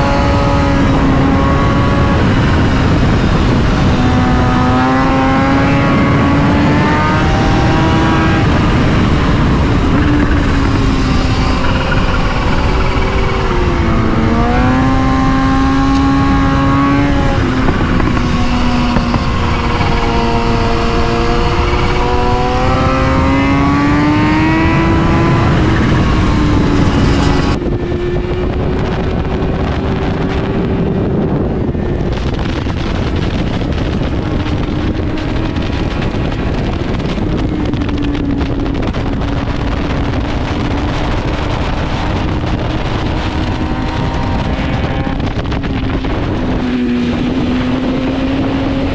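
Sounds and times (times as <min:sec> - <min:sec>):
motorcycle engine revving: 0:00.0 - 0:48.9
rushing wind: 0:00.0 - 0:48.9.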